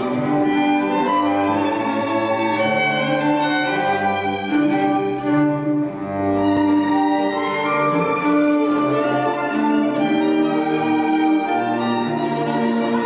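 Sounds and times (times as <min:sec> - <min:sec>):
orchestral strings playing: 0:00.0 - 0:13.0.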